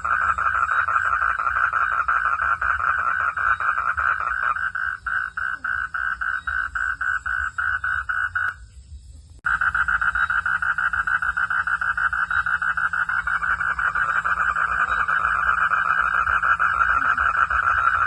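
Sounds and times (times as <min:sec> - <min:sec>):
frogs calling: 0:00.0 - 0:18.0.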